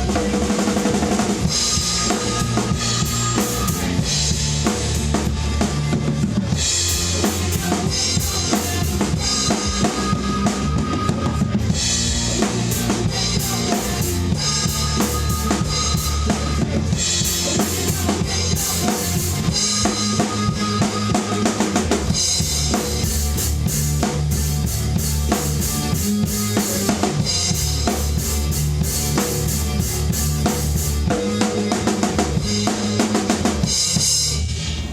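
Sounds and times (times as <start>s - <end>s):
heavy rock recording: 0.0s - 34.9s
rock drum kit played hard: 0.0s - 34.9s.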